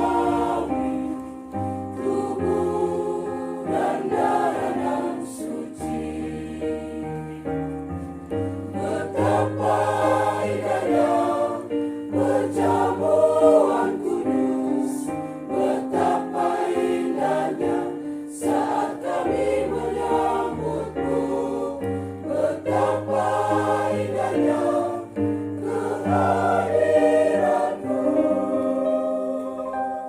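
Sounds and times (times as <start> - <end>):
church choir singing a hymn: 0.0 - 30.0.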